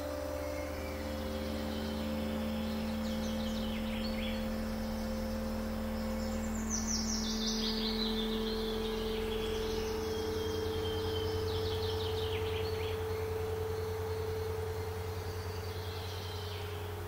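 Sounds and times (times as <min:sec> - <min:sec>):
bird chirps: 0:00.0 - 0:17.0
held drone tones: 0:00.0 - 0:17.0
low rumbling: 0:00.0 - 0:17.0.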